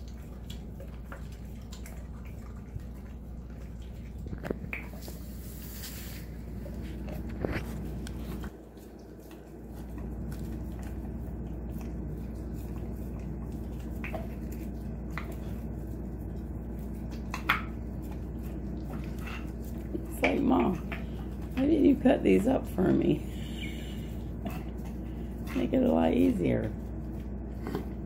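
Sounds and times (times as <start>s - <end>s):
dog chewing bones: 0.0s - 5.3s, 6.4s - 28.0s
steady low hum: 0.0s - 28.0s.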